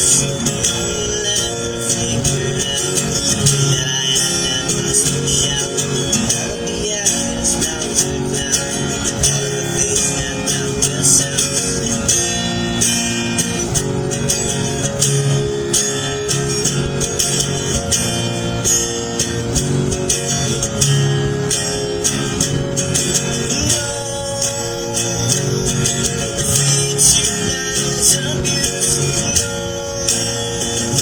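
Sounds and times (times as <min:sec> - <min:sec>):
plucked string notes: 0:00.0 - 0:31.0.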